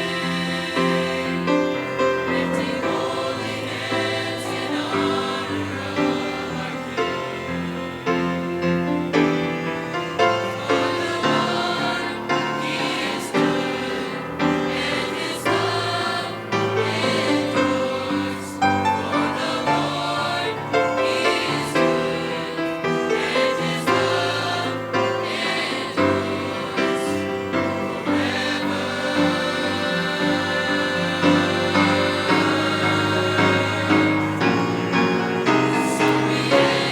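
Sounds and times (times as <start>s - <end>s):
choir singing gospel song: 0.0s - 36.9s.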